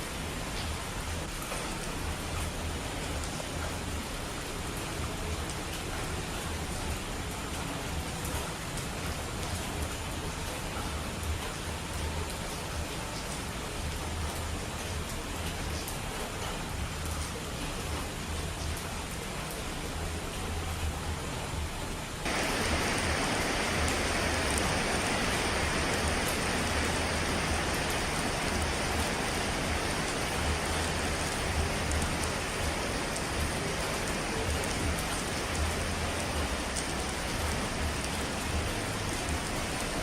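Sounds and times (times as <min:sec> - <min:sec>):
rushing of falling water: 0:00.0 - 0:40.0.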